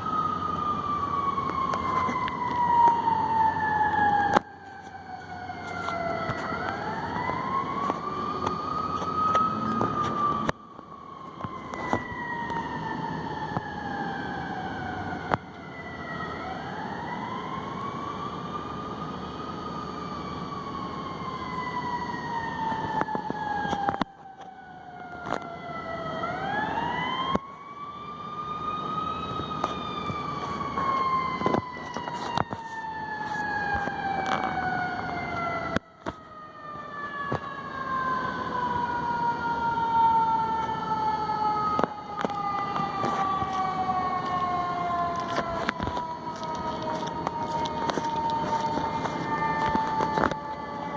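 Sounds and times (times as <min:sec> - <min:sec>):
fire truck siren wailing: 0:00.0 - 0:50.9
low rumble of traffic: 0:00.0 - 0:50.9.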